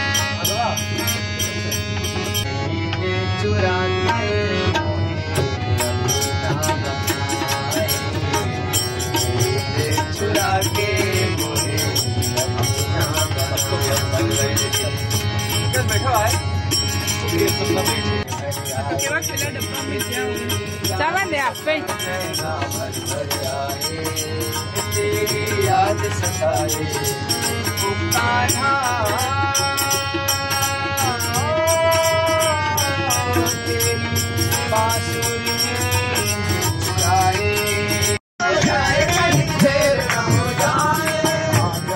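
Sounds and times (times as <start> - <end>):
tabla beat: 0.0 - 3.5, 4.1 - 41.9
harmonium chords: 0.0 - 41.9
man singing: 2.8 - 16.4, 17.1 - 41.9.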